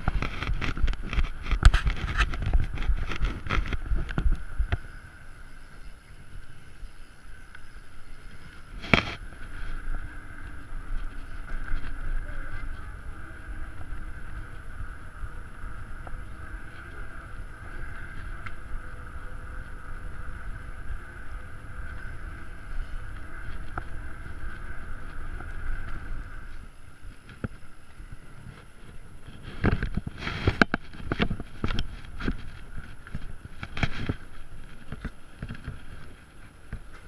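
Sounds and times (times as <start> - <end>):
bike rolling over stone paving: 0.0 - 5.0, 7.7 - 37.0
wind on microphone: 0.0 - 37.0.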